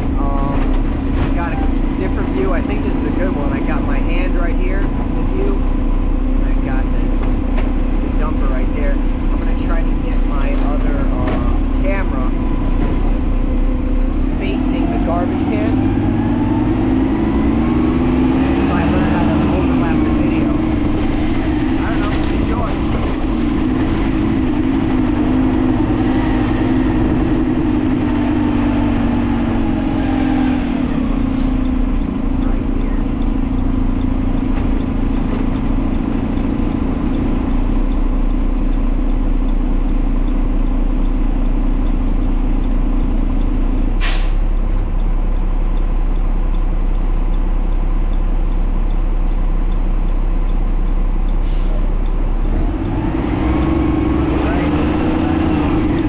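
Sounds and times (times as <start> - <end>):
garbage truck engine running: 0.0 - 56.0.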